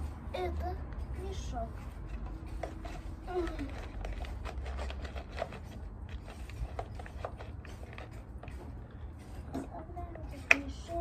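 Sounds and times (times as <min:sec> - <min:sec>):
plastic parts clicking and knocking: 0:02.0 - 0:11.0.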